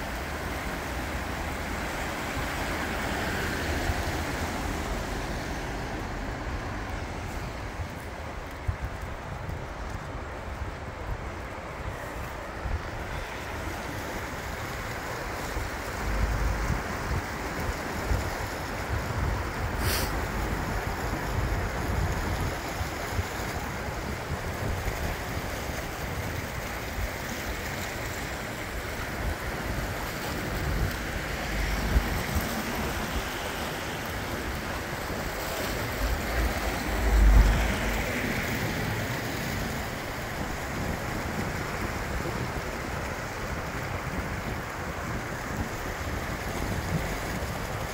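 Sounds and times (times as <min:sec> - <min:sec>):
river water rushing: 0:00.0 - 0:47.9
wind gusting on microphone: 0:00.0 - 0:47.9.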